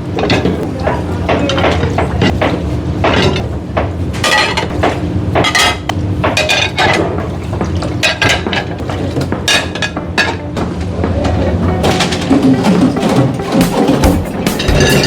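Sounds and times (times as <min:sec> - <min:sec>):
low kitchen hum: 0:00.0 - 0:15.0
dishes and cutlery clattering: 0:00.1 - 0:03.5, 0:04.2 - 0:15.0.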